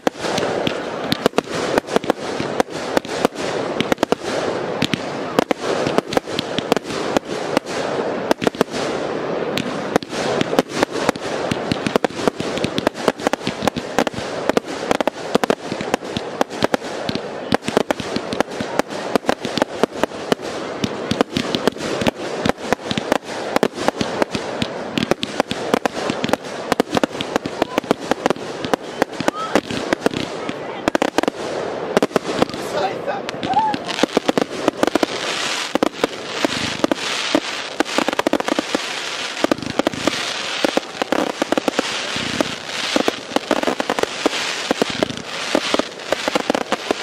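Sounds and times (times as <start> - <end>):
fireworks bangs: 0.0 - 47.0
fireworks bursting wash: 0.0 - 47.0.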